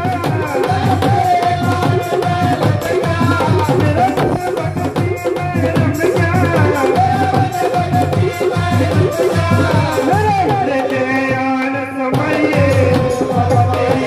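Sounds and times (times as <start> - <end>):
hand drum beating: 0.0 - 11.4.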